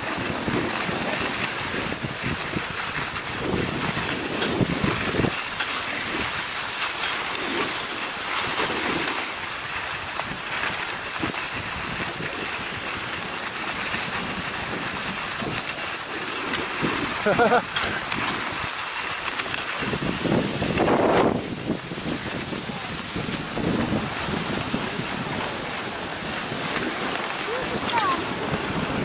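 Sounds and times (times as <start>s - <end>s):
skis hissing on packed snow: 0.0s - 29.0s
wind on microphone: 0.0s - 29.0s.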